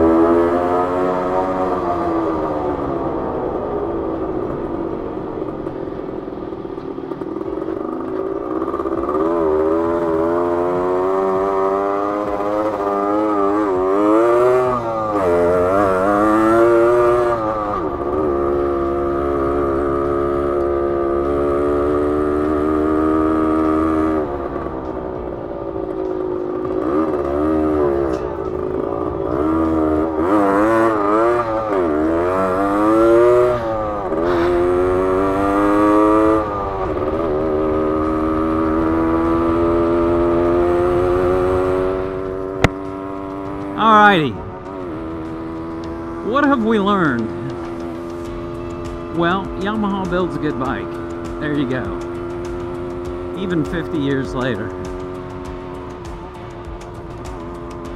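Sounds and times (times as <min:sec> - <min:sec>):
two-stroke motorcycle engine revving: 0:00.0 - 0:57.9.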